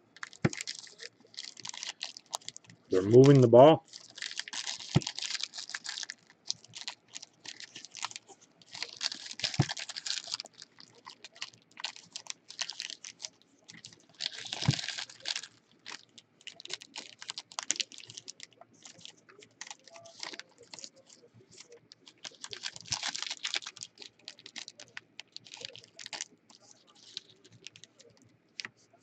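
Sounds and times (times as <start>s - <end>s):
rustling foil wrappers: 0.2s - 28.7s.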